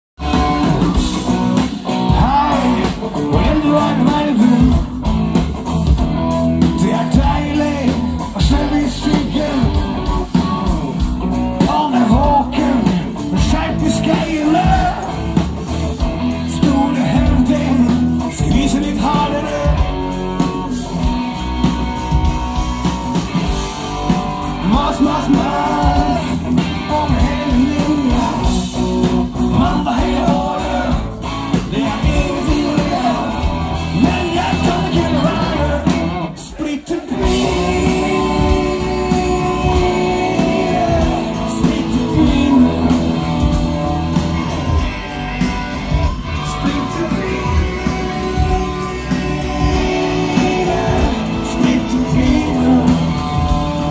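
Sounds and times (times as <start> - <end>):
lead vocals: 0.2 - 53.9
live rock band playing: 0.2 - 53.9.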